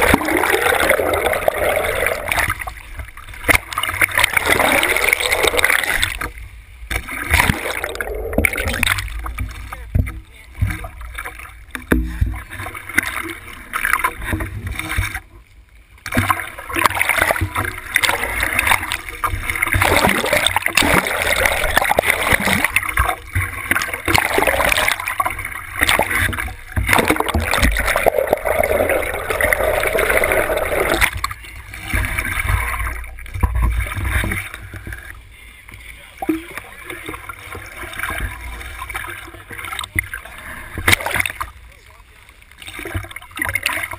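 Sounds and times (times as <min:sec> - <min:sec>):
seawater splashing and gurgling: 0:00.0 - 0:43.9.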